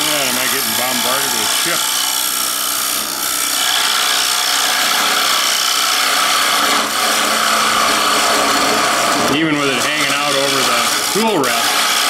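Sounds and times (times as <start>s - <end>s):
cutter scraping wood: 0.0s - 12.0s.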